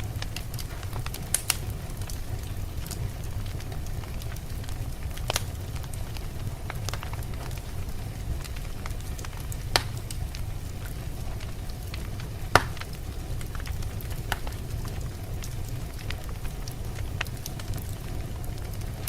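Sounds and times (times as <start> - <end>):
fire sharp pops: 0.0 - 19.0
steady low rumble: 0.0 - 19.0
wood fire crackling: 0.0 - 19.0.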